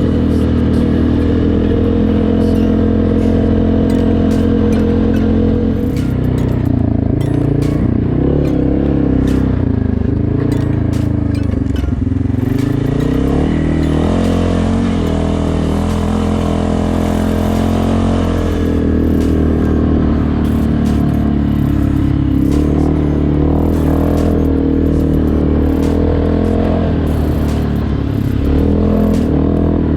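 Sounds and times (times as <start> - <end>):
single-cylinder engine running: 0.0 - 29.9.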